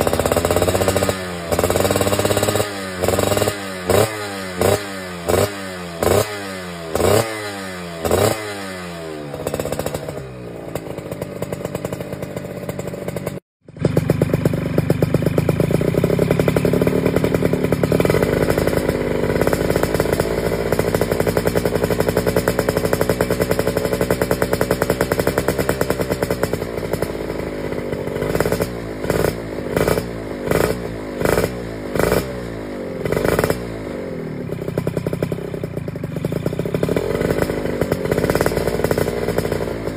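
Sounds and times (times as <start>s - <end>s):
two-stroke motorcycle revving: 0.0s - 39.9s.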